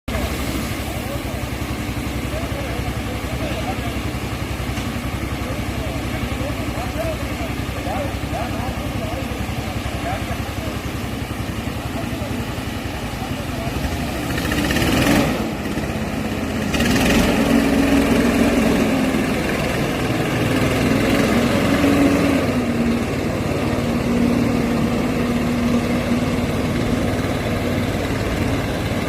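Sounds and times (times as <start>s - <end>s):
sprayer engine running: 0.1s - 29.0s.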